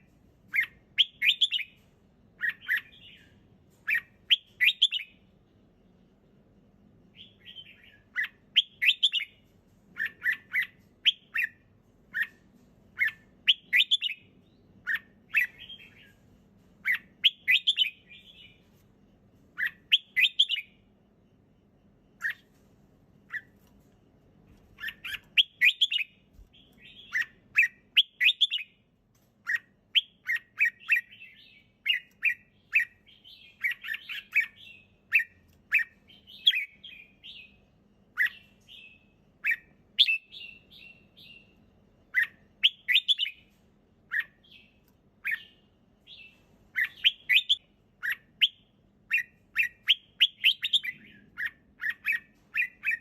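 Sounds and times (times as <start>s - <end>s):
bird singing warbled phrases: 0.0s - 1.8s, 2.4s - 5.2s, 7.1s - 9.4s, 10.0s - 12.4s, 13.0s - 16.2s, 16.8s - 18.7s, 19.6s - 20.9s, 22.2s - 22.5s, 24.8s - 28.8s, 29.4s - 53.0s.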